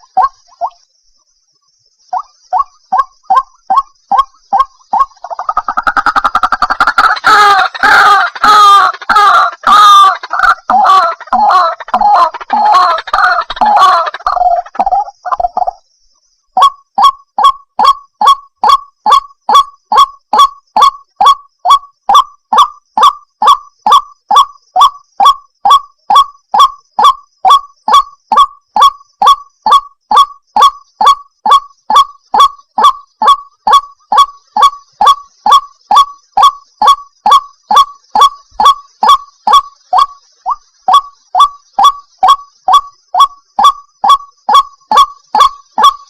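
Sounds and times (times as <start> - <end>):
waterhen calling: 0.0 - 0.8, 2.1 - 15.8, 22.6 - 46.0.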